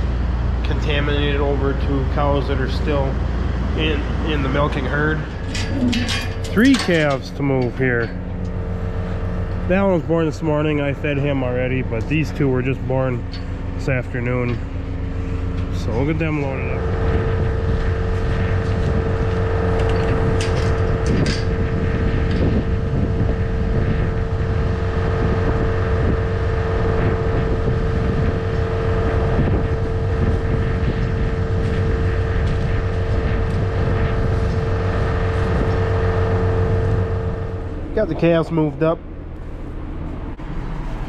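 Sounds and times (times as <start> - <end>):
steady whining tone: 0.0 - 41.0
vehicle engine droning: 0.0 - 41.0.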